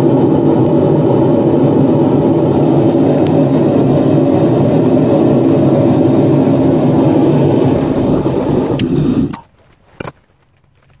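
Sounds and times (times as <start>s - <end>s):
furnace burner roaring: 0.0s - 9.5s.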